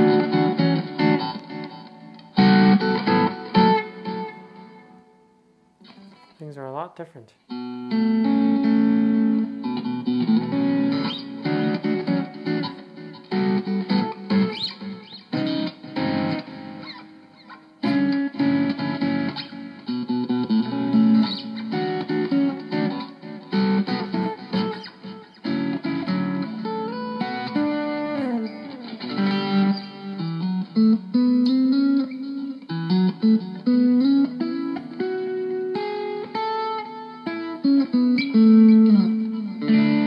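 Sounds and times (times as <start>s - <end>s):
distorted electric guitar: 0.0s - 6.4s, 7.5s - 40.0s.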